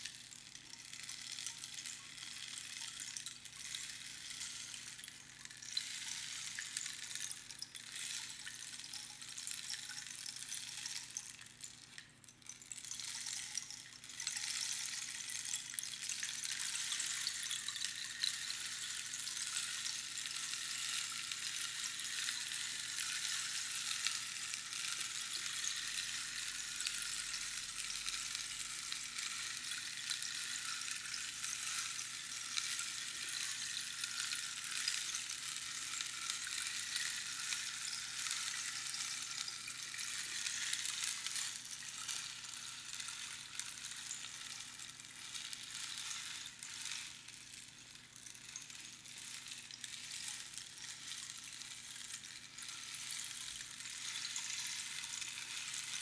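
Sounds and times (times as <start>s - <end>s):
rainstick pouring: 0.0s - 56.0s.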